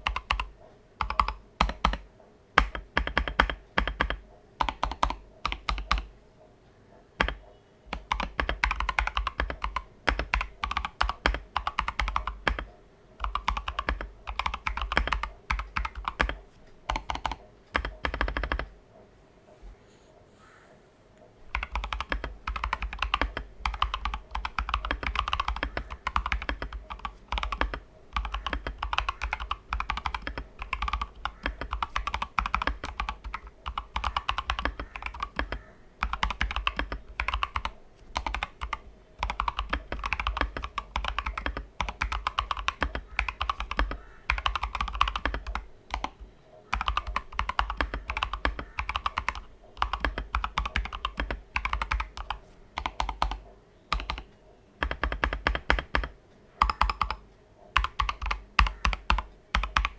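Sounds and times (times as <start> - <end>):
fast typing on mechanical keyboard: 0.0 - 6.1, 7.2 - 18.7, 21.5 - 59.9.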